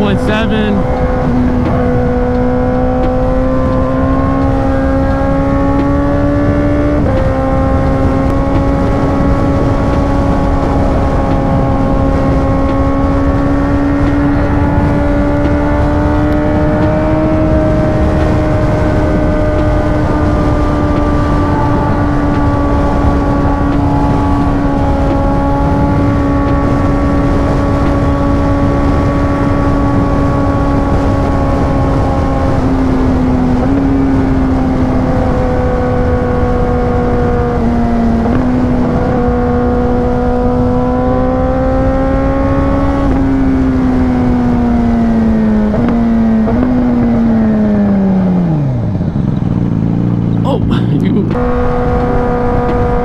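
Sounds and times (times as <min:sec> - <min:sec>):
motorcycle engine at high speed: 0:00.0 - 0:53.0
wind and road rush: 0:00.0 - 0:53.0.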